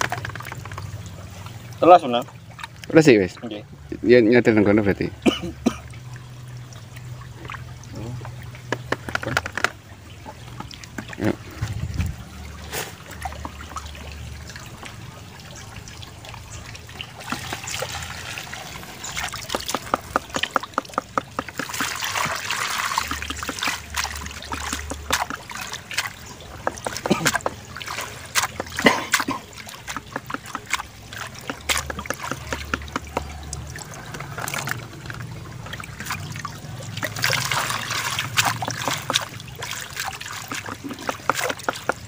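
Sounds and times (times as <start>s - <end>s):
water trickling and splashing: 0.0s - 42.0s.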